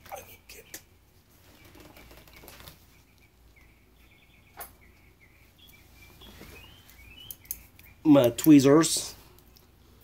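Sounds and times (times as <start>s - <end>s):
faint bird chirping: 0.1s - 8.8s.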